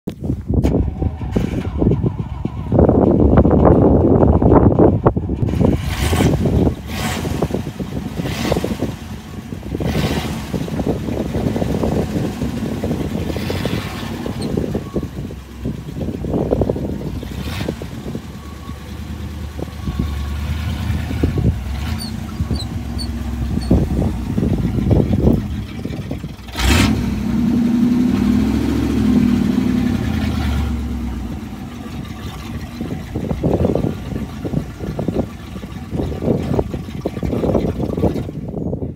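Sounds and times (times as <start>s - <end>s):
wind buffeting microphone: 0.1s - 38.9s.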